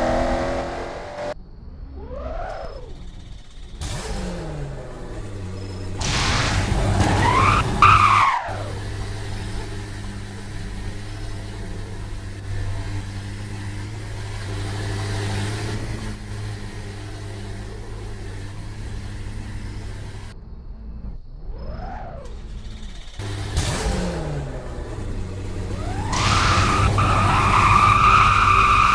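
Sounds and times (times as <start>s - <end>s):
car engine revving and rumbling: 0.0s - 28.9s.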